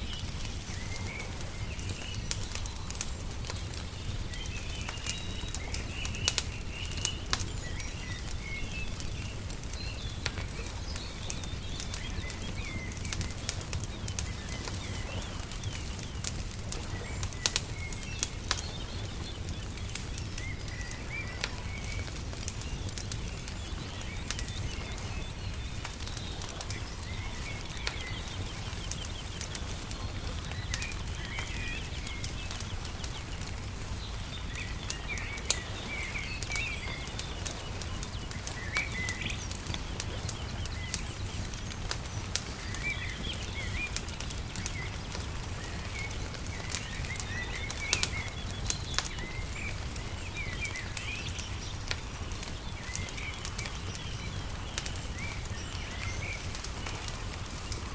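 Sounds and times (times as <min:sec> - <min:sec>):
small birds chirping: 0:00.0 - 0:57.9
wood fire crackling and popping: 0:00.0 - 0:57.9.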